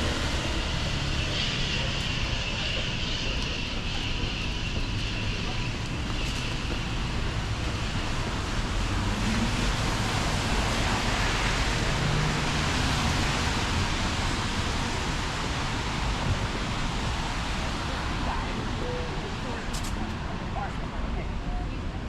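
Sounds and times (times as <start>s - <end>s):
low rumble of vehicles: 0.0s - 22.0s
tyres on wet pavement: 0.0s - 22.0s.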